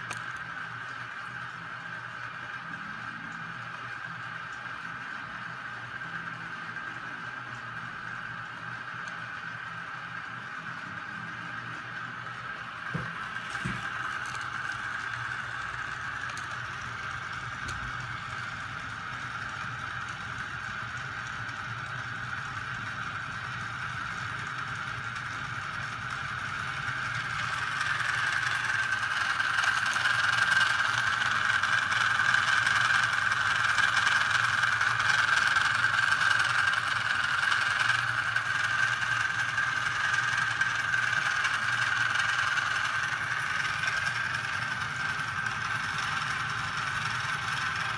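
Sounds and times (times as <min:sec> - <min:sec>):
electric motors whining: 0:00.0 - 0:47.9.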